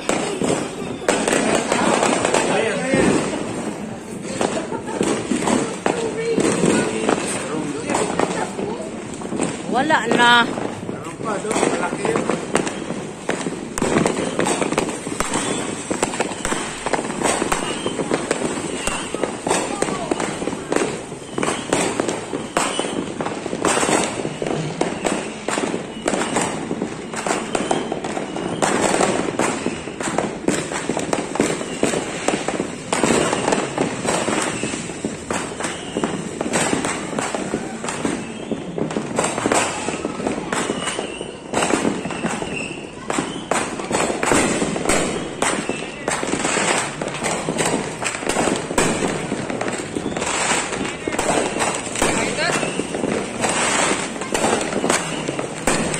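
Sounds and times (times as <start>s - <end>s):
firecrackers crackling: 0.0s - 55.9s
fireworks bangs and pops: 0.0s - 55.9s.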